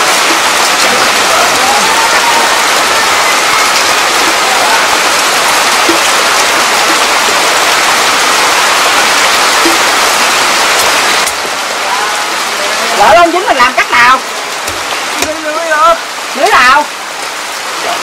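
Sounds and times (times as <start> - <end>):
splashing water rushing: 0.0 - 18.0.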